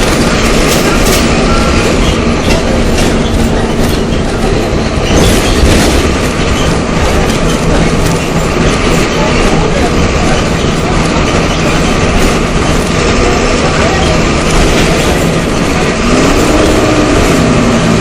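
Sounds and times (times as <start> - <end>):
bus body rattling: 0.0 - 18.0
diesel bus engine running: 0.0 - 18.0.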